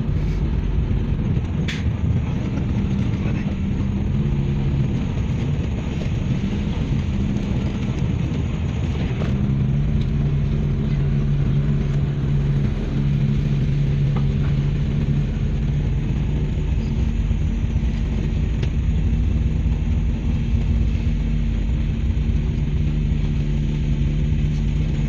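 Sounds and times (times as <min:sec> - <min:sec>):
car engine hum: 0:00.0 - 0:25.0
road rumble: 0:00.0 - 0:25.0.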